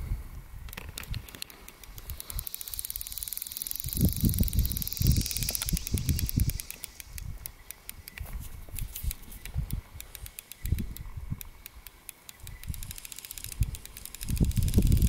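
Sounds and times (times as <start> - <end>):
fly reel ratchet ticking: 1.0 - 15.0.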